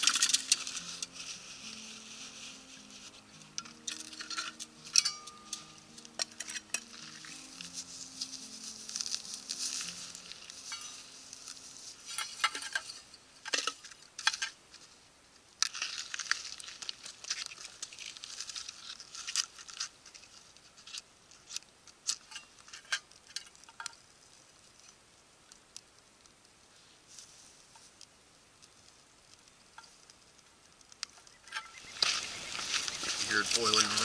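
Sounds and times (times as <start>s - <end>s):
dry twigs snapping and crackling: 0.0s - 26.5s, 27.7s - 34.0s
rustling of twigs: 0.0s - 34.0s.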